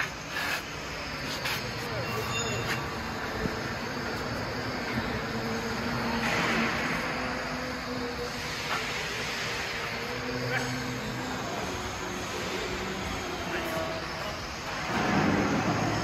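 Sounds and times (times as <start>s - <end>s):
industrial machine hum: 0.0s - 16.0s
machine hiss: 0.0s - 16.0s.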